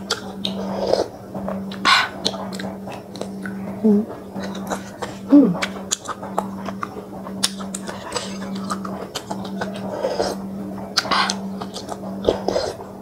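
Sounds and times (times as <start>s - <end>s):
low hum: 0.0s - 13.0s
chewing: 0.1s - 3.7s, 4.4s - 10.4s, 11.0s - 12.8s.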